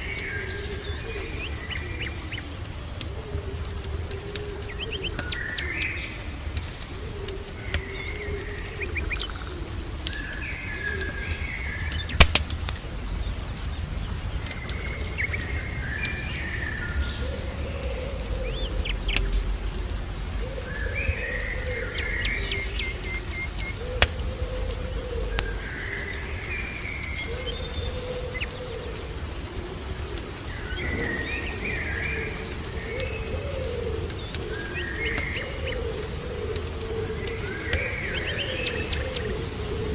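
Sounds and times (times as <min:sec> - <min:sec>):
doves cooing: 0:00.0 - 0:39.9
fireplace crackling: 0:00.0 - 0:39.9
small birds chirping: 0:00.0 - 0:39.9.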